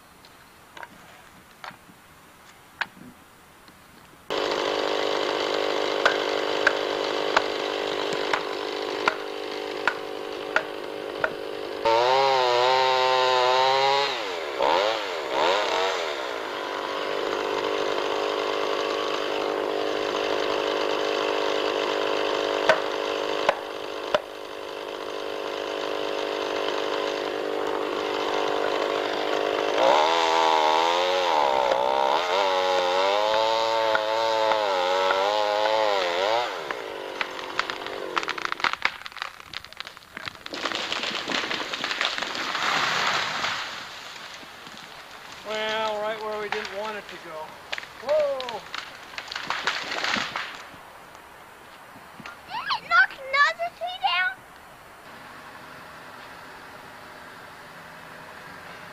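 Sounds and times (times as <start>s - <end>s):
chainsaw cutting tree: 4.3s - 50.8s, 55.0s - 58.9s.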